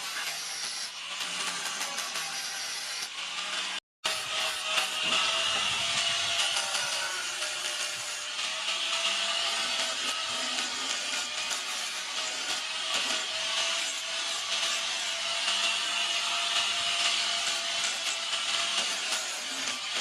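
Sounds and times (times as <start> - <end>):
power tool grinding metal: 0.0 - 20.0.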